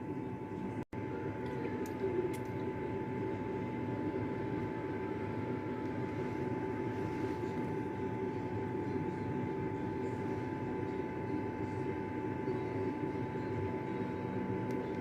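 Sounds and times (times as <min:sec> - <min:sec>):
high machine whine: 0:00.0 - 0:15.0
machine hum: 0:00.0 - 0:15.0.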